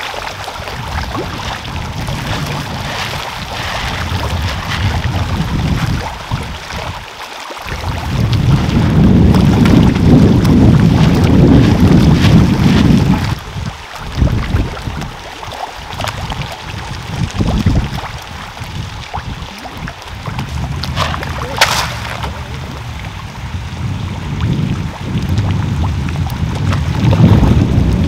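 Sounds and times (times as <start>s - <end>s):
pond water splashing: 0.0s - 28.0s
wind rumbling on microphone: 0.0s - 28.0s.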